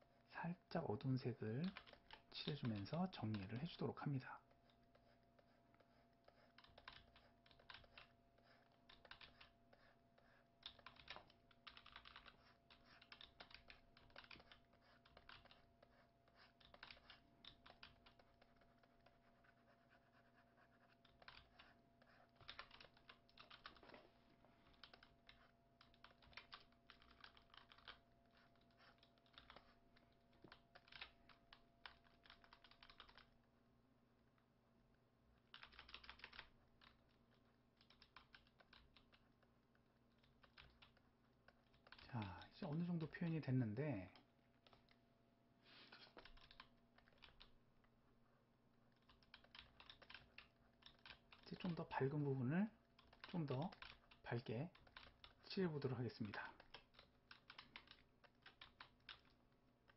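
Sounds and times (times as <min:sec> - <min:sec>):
stylus and keys clicking: 0:00.8 - 0:19.4, 0:24.7 - 0:33.4, 0:35.4 - 0:39.4, 0:40.1 - 0:45.0, 0:46.0 - 0:47.9, 0:48.9 - 0:59.9.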